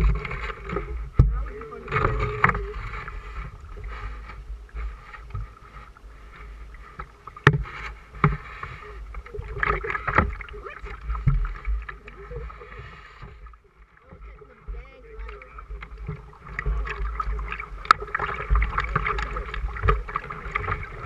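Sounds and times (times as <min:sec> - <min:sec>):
paddle strokes splashing: 0:00.0 - 0:21.0
water washing along hull: 0:00.0 - 0:21.0.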